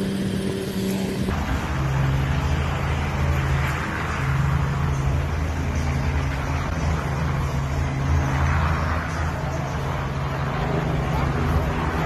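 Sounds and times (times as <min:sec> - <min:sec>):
helicopter engine drone: 0:00.0 - 0:12.0.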